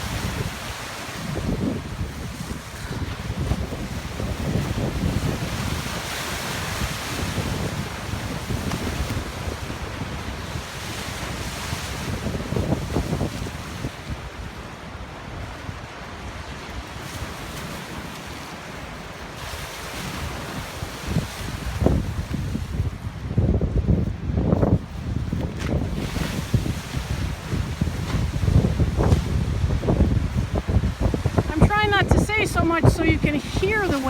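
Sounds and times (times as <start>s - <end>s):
wind buffeting microphone: 0.0s - 18.4s, 19.3s - 34.0s
waves breaking on rocky shore: 0.0s - 34.0s.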